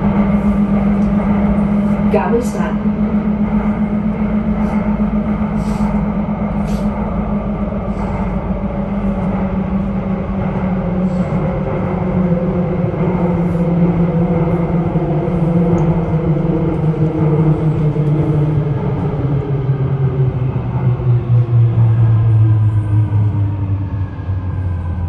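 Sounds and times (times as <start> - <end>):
metro train motor hum: 0.0 - 25.0.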